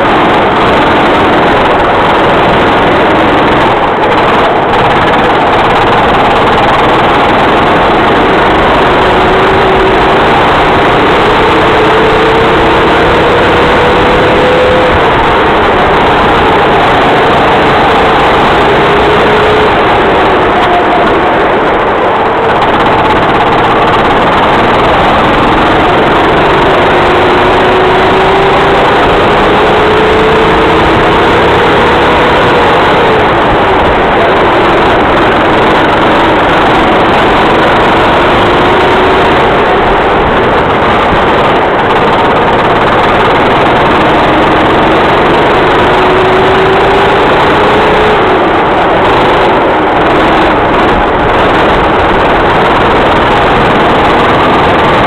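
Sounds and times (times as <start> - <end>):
racing kart engine accelerating: 0.0 - 55.0.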